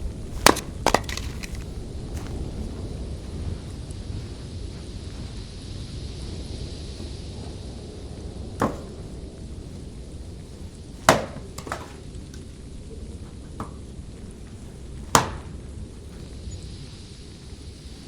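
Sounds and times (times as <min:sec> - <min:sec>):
low rumble of wind: 0:00.0 - 0:18.0.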